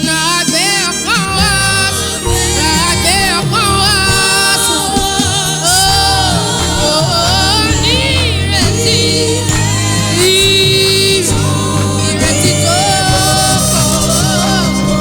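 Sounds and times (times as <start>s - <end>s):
instrumental accompaniment with low bass: 0.0s - 15.0s
person singing ornamented lines: 0.0s - 15.0s.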